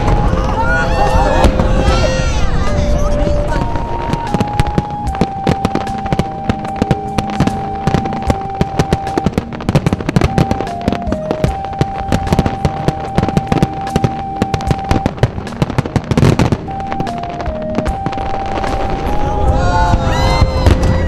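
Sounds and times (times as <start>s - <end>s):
fireworks bangs and crackling: 0.0s - 21.0s
music with long held notes: 0.0s - 21.0s.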